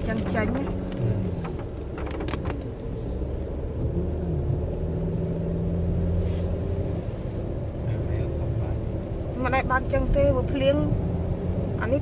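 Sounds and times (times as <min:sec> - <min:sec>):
car engine drone and road rumble: 0:00.0 - 0:12.0.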